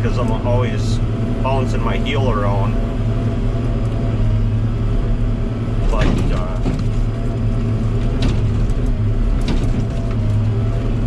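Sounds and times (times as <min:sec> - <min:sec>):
log loader engine humming: 0:00.0 - 0:11.0.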